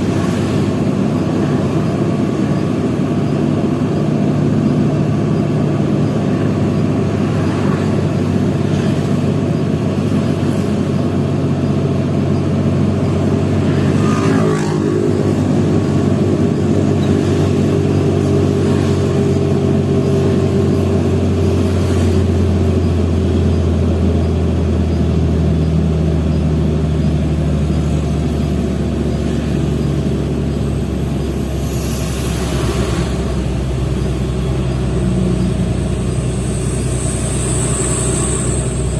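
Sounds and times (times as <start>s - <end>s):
truck diesel engine under load: 0.0s - 38.9s.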